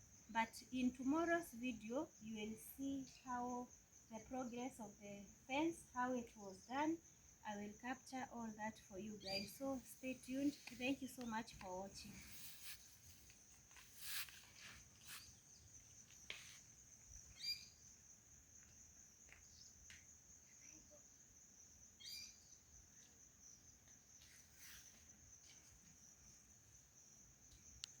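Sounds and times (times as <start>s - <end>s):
high-pitched insect trill: 0.0s - 28.0s.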